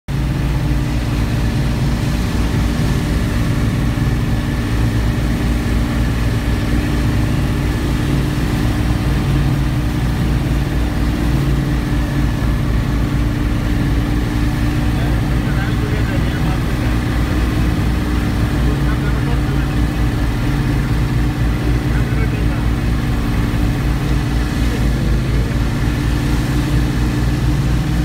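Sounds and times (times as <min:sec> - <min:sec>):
large engine droning: 0:00.1 - 0:28.0.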